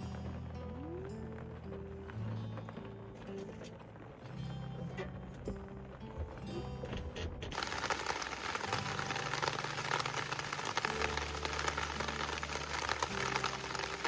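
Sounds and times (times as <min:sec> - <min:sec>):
rain pattering on a van roof: 0:00.0 - 0:14.0.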